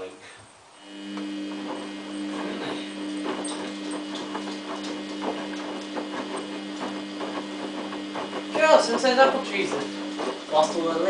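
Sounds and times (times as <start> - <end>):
washing machine motor hum: 0.8 - 11.0.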